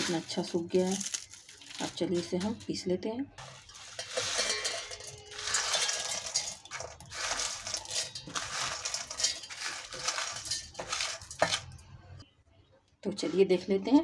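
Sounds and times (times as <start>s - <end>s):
dried tomato pieces rattling on steel: 0.0s - 2.8s, 3.4s - 11.9s.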